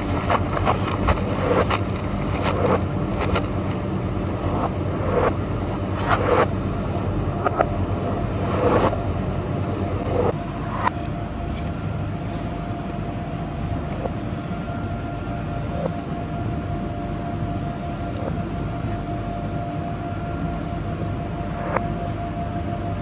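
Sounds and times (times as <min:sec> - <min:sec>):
faint steady hum: 0:00.0 - 0:23.0
low mechanical drone: 0:00.0 - 0:23.0.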